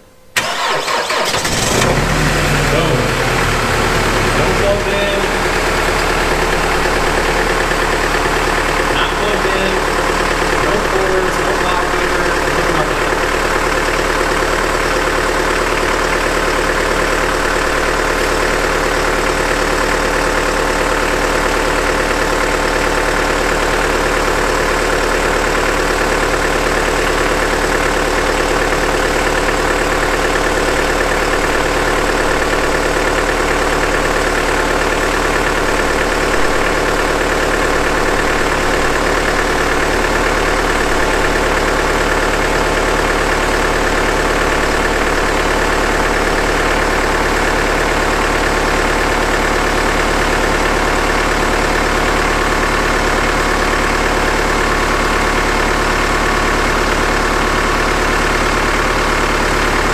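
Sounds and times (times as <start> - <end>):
diesel engine idling: 0.4 - 59.9.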